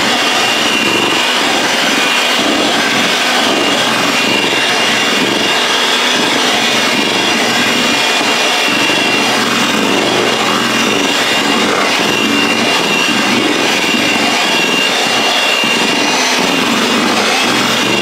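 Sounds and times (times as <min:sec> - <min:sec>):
electric hand mixer whining: 0:00.0 - 0:18.0.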